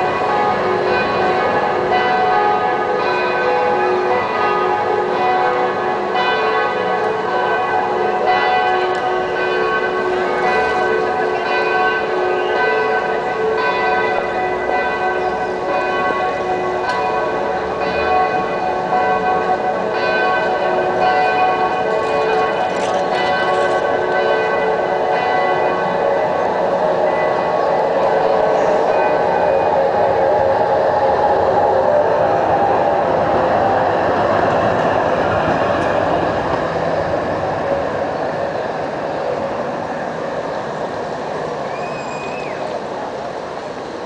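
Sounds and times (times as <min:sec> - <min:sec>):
church bells pealing: 0:00.0 - 0:41.5.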